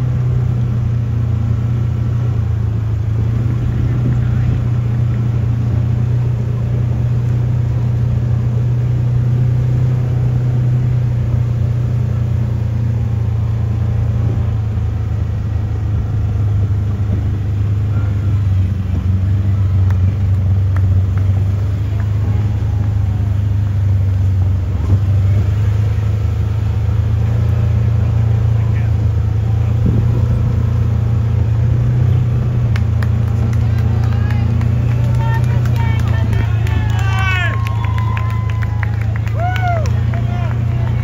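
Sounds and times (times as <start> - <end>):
low engine drone: 0.0 - 41.0.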